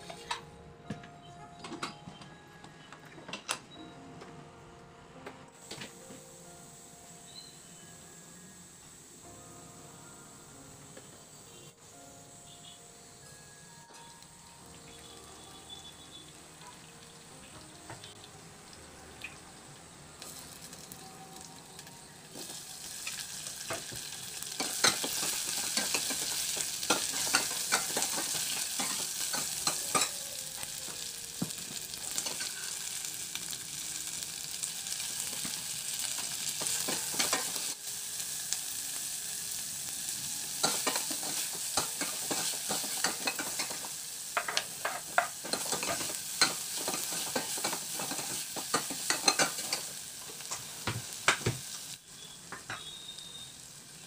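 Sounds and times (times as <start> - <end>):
onions sizzling in hot oil: 5.6 - 54.0.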